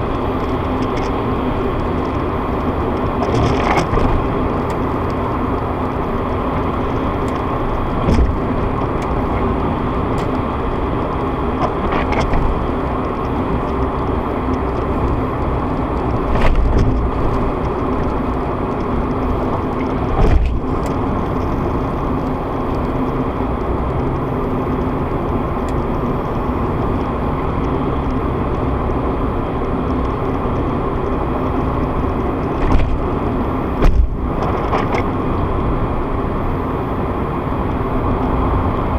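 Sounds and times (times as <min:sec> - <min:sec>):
engine and tyre hum: 0:00.0 - 0:38.9.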